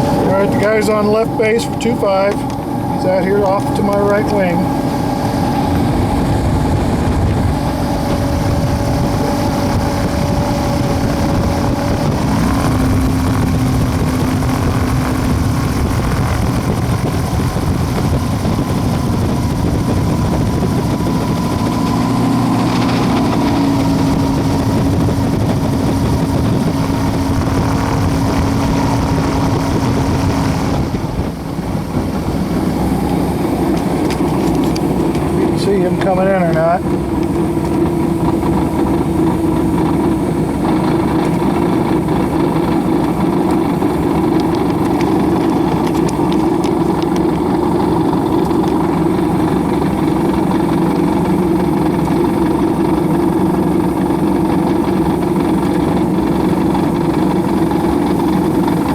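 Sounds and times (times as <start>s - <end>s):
light aircraft engine idling: 0.0s - 58.9s.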